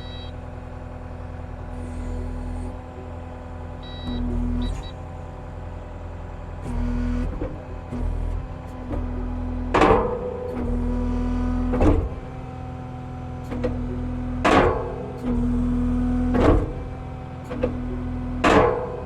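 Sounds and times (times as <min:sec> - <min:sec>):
diesel engine running: 0:00.0 - 0:19.0
hydraulic whine: 0:00.0 - 0:19.0.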